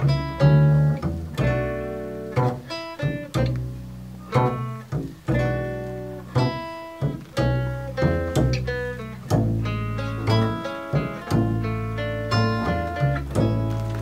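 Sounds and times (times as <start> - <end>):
acoustic guitar: 0.0 - 14.0
double bass notes: 0.0 - 14.0.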